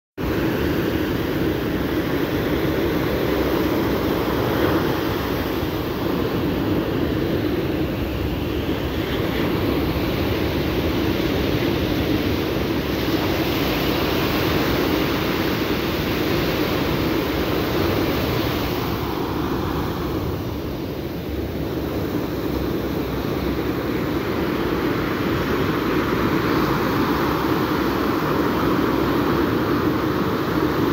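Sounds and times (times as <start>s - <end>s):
surf breaking on beach: 0.2s - 30.9s
wind buffeting microphone: 0.2s - 30.9s.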